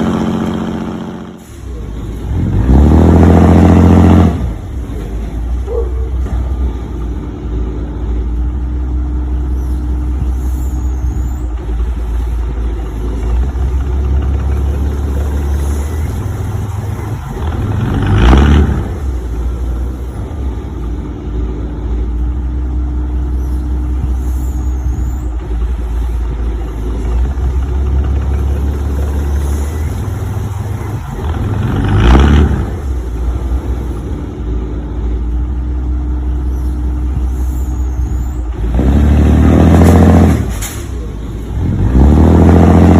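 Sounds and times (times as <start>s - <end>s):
heavy vehicle engine rumbling: 0.0s - 42.9s.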